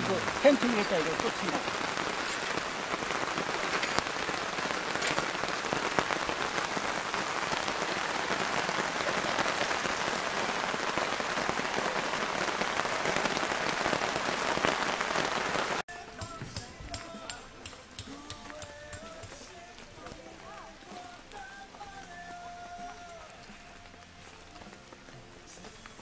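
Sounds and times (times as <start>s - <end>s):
rain falling on a tarp: 0.0s - 26.0s.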